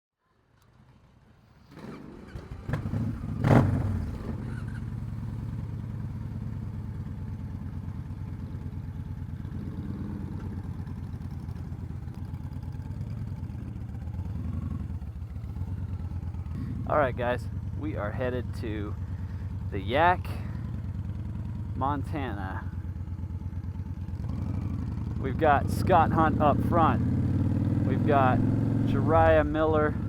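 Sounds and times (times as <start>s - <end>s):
motorcycle engine running: 1.8s - 30.0s.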